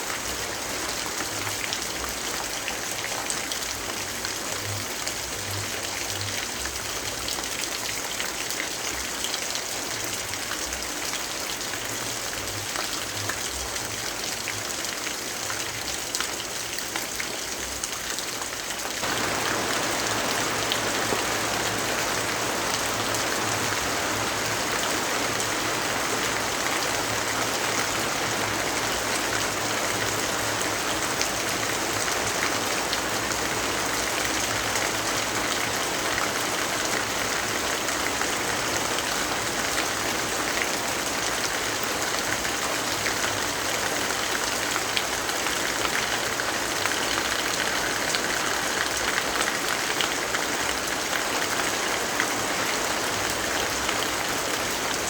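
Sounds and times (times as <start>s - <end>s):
dense rainfall hiss: 0.0s - 55.0s.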